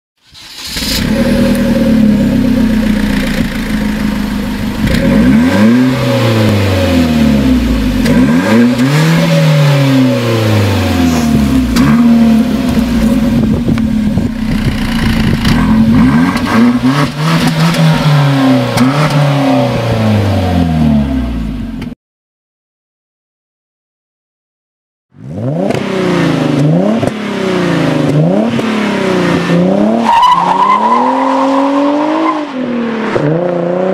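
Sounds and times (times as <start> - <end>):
car engine idling and revving: 0.3 - 22.0, 25.2 - 33.9.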